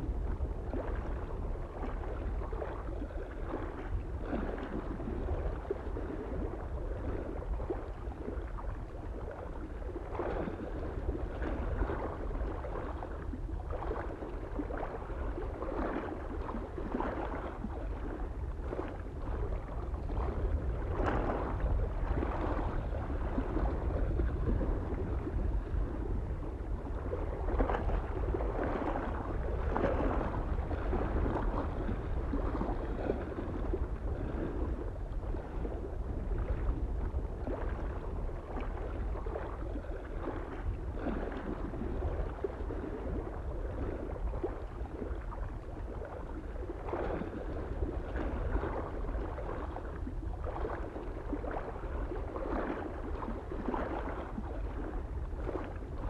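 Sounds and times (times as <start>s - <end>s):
lake waves lapping on shore: 0.0s - 56.0s
wind rumble on microphone: 0.0s - 56.0s.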